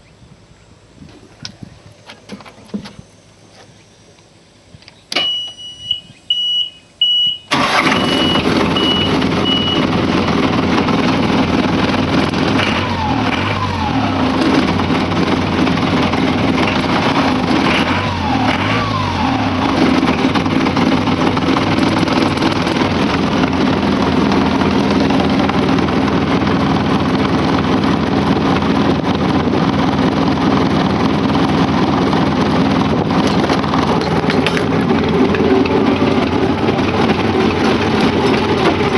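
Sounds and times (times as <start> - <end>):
diesel engine cranking: 5.1 - 38.9
diesel engine running: 5.5 - 38.9.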